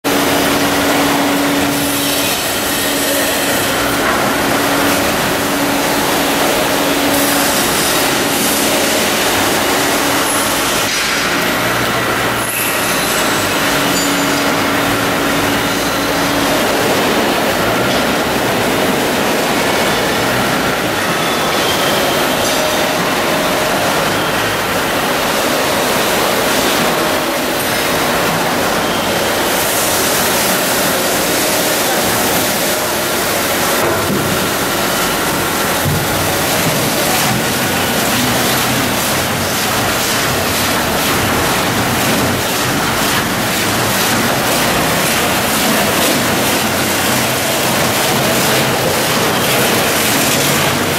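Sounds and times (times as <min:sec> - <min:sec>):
industrial shredder din: 0:00.0 - 0:50.9.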